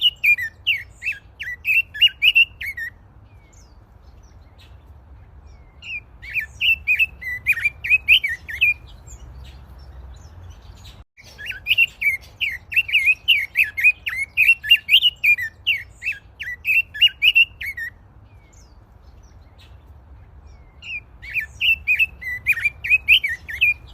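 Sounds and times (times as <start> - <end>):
songbird warbling chirps: 0.0 - 23.9.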